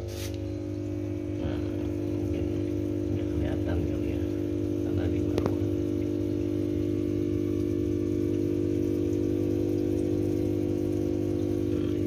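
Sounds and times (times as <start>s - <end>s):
aquarium pump humming: 0.0s - 12.0s
water trickling: 0.1s - 12.0s.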